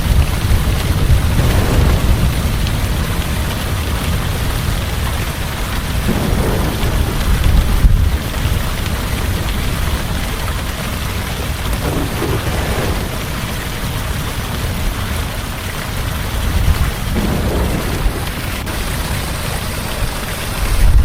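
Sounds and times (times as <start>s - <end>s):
heavy rain pouring: 0.0s - 21.0s
low thunder rumbling: 0.0s - 21.0s.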